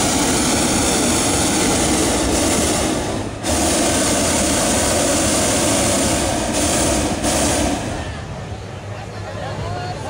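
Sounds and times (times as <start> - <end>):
propane burner roaring: 0.0 - 9.0.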